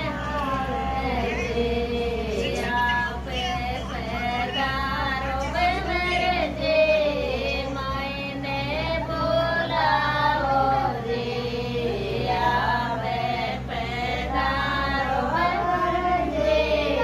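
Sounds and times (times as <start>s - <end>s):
steady low hum: 0.0s - 17.0s
women singing together: 0.0s - 17.0s.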